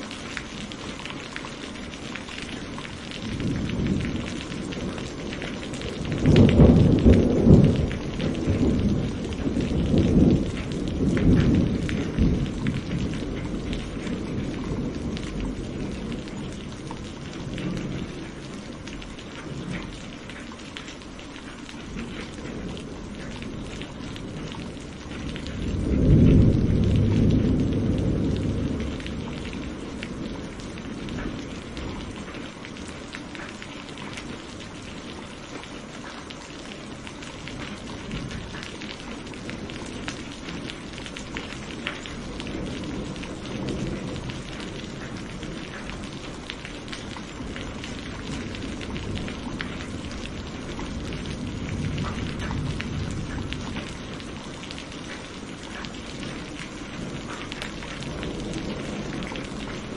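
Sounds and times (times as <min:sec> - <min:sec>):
steady rain: 0:00.0 - 0:59.9
distant thunder rolling: 0:02.5 - 0:20.2, 0:21.9 - 0:32.6, 0:37.4 - 0:59.9.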